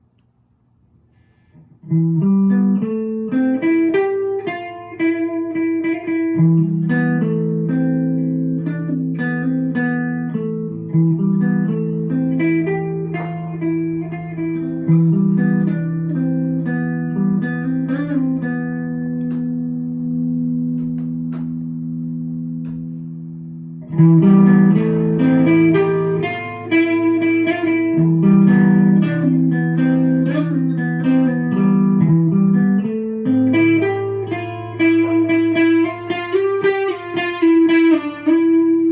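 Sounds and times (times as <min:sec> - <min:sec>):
electric guitar through amplifier: 0:01.0 - 0:38.9.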